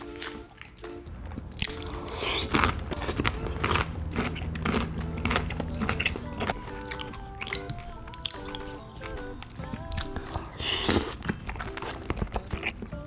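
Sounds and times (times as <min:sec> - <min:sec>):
crunchy food chewing: 0:00.0 - 0:13.0.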